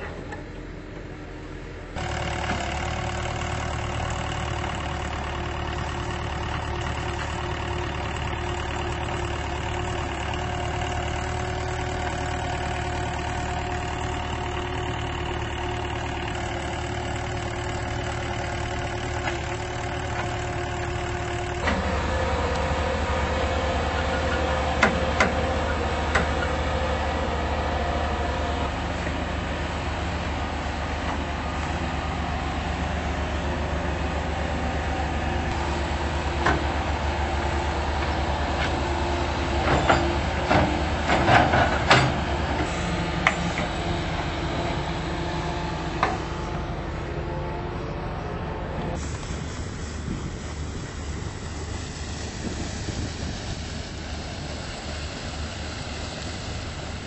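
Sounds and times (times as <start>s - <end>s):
bulldozer engine running: 0.0s - 57.0s
heavy machinery engine: 0.0s - 57.0s.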